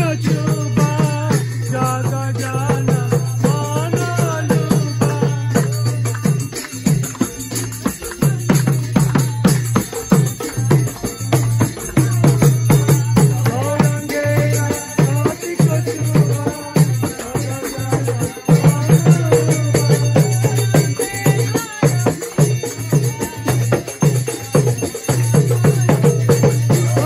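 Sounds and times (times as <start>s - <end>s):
hand cymbals clashing: 0.0s - 27.0s
hand drum rhythm: 0.0s - 27.0s.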